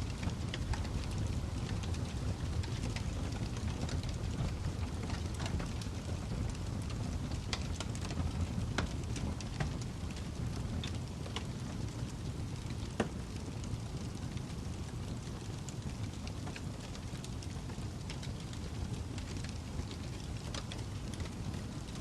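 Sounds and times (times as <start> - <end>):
burning logs crackling and popping: 0.0 - 22.0
low rumble of flames: 0.0 - 22.0.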